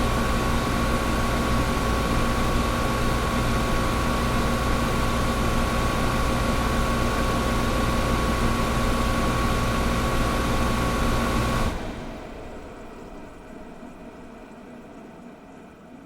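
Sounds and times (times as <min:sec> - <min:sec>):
air conditioner hiss: 0:00.0 - 0:16.0
air conditioner hum and whine: 0:00.0 - 0:16.0.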